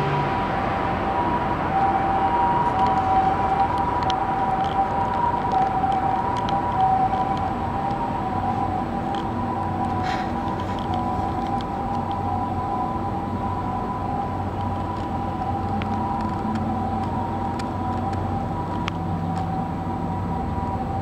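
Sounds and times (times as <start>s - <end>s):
constant whining tones: 0.0s - 21.0s
distant city drone: 0.0s - 21.0s.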